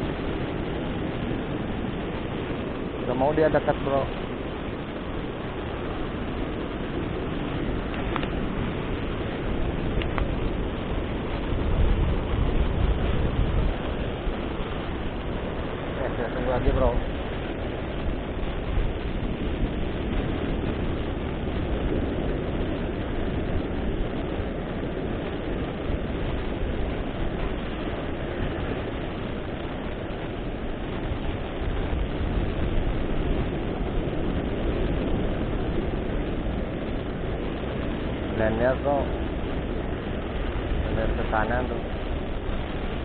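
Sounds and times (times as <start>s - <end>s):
ocean surf: 0.0s - 43.0s
wind buffeting microphone: 0.0s - 43.0s.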